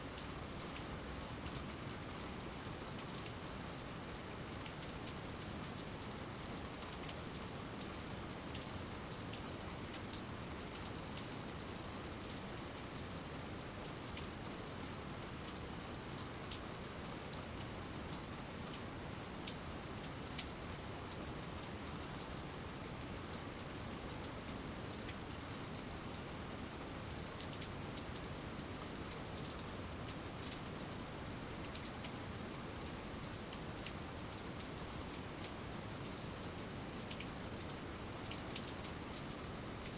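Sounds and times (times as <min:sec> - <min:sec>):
rain falling: 0:00.1 - 0:39.9
raindrops ticking on a surface: 0:00.1 - 0:39.9.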